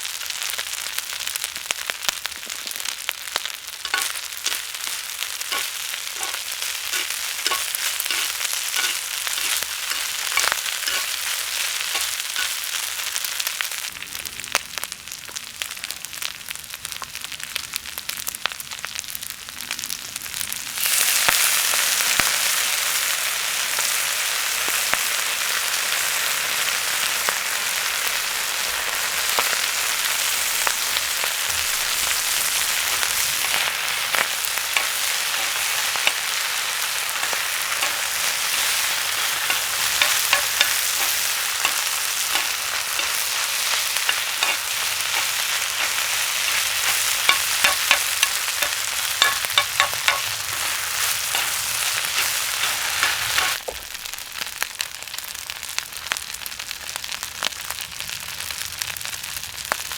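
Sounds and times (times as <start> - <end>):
food sizzling on a griddle: 0.0 - 59.9
wood fire crackling and popping: 1.0 - 21.4, 28.8 - 59.9.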